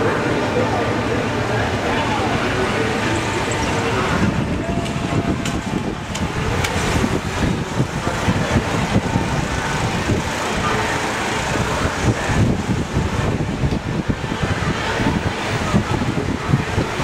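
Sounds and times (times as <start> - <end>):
low rumbling outdoor noise: 0.0 - 17.0.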